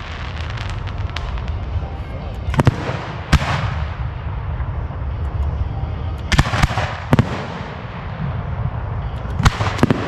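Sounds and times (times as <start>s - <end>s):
fireworks booming: 0.0s - 5.6s, 6.2s - 10.0s
low background noise: 0.0s - 10.0s.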